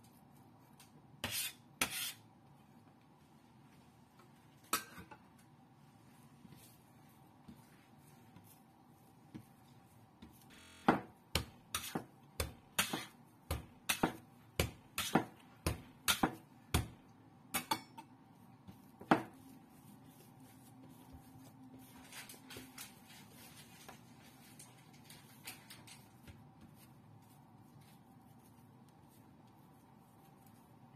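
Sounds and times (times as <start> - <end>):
soft hand kneading: 0.0 - 1.5, 2.2 - 10.5, 11.1 - 30.9.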